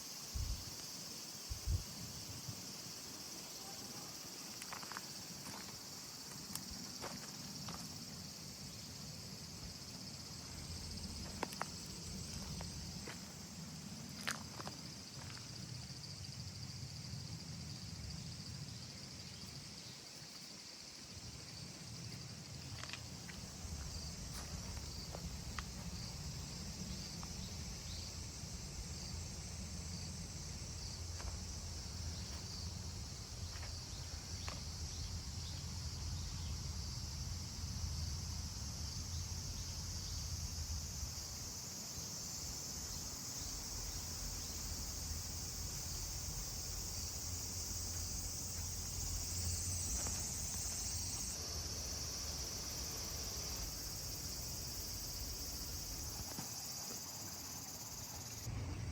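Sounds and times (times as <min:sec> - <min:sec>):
insects buzzing: 0:00.0 - 0:58.9.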